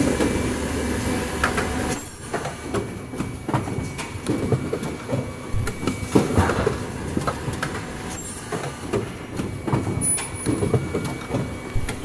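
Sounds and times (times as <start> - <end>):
low machine rumble: 0.0 - 12.0
machine clattering knocks and clicks: 1.4 - 12.0.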